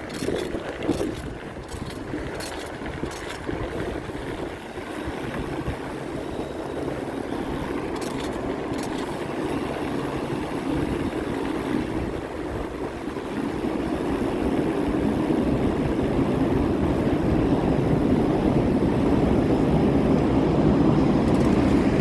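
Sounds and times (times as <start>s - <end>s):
bicycle road noise: 0.0s - 22.0s.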